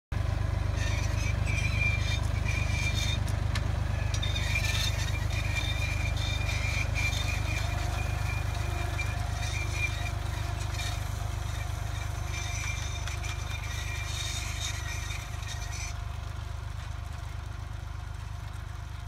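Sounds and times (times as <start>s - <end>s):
tractor engine running: 0.1s - 19.0s
light rattling: 0.7s - 16.1s.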